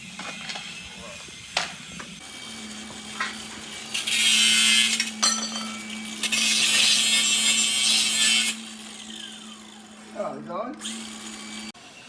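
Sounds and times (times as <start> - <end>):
harsh rasping tool noise: 0.0 - 12.0.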